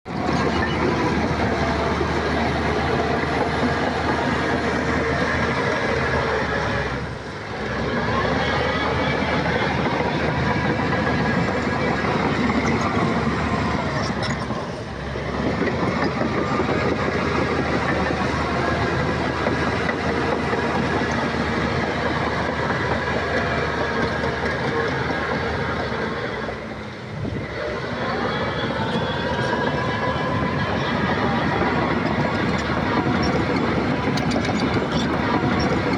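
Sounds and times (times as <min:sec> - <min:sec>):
bulldozer diesel engine: 0:00.1 - 0:35.9
steel tracks clattering: 0:00.1 - 0:35.9.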